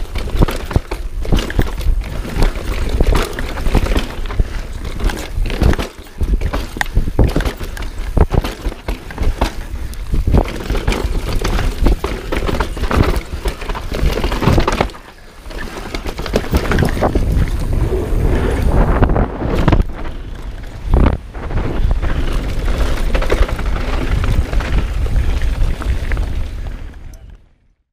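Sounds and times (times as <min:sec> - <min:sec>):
bike chain and frame rattling: 0:00.0 - 0:27.4
bike tyres skidding over dirt: 0:00.0 - 0:27.4
wind buffeting microphone: 0:00.0 - 0:27.5.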